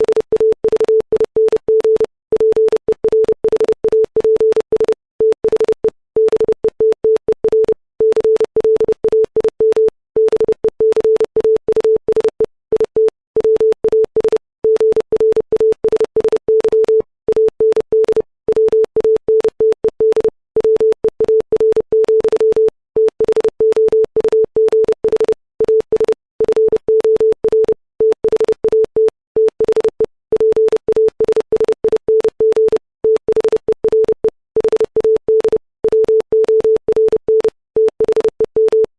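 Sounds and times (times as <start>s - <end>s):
morse code sine tone: 0.0s - 38.9s.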